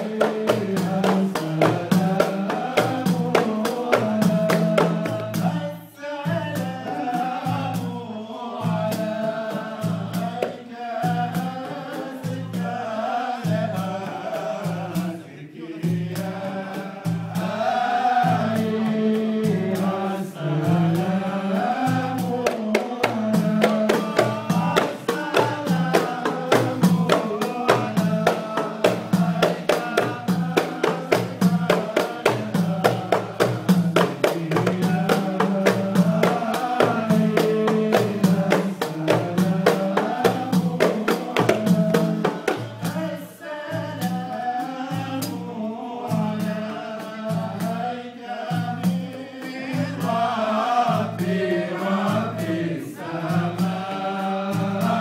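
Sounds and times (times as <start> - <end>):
frame drums beating: 0.0 - 55.0
men chanting in unison: 0.0 - 55.0.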